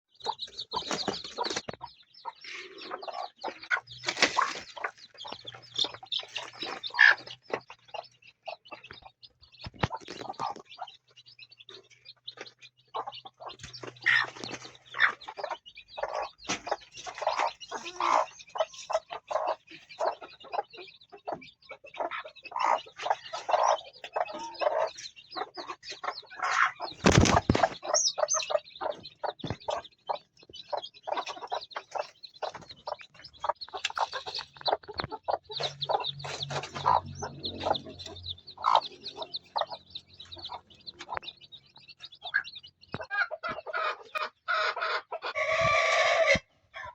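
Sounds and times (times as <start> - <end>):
chickens clucking: 0.1 - 46.9.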